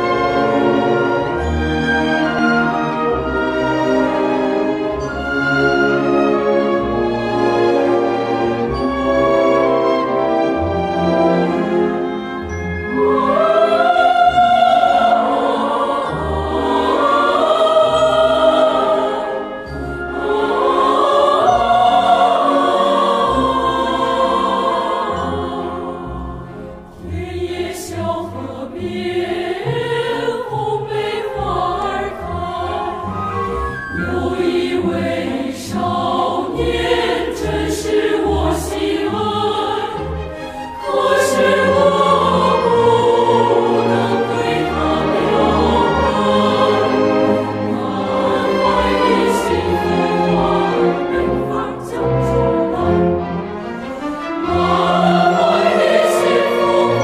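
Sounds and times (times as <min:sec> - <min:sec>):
choral operatic singing: 0:00.0 - 0:57.0.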